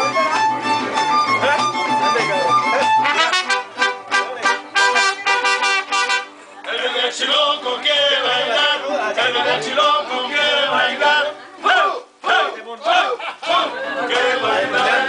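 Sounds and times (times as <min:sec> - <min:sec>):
mariachi band playing: 0:00.0 - 0:15.0.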